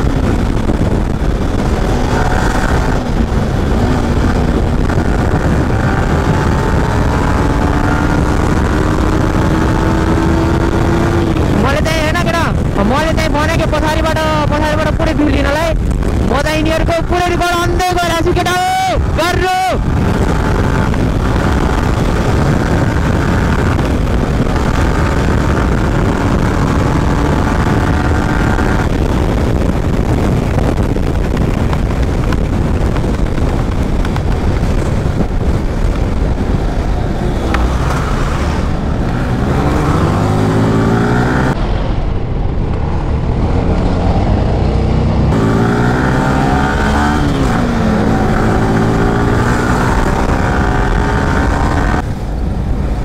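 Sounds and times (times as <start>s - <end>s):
motorcycle engine accelerating: 0.0s - 17.6s, 19.8s - 53.0s.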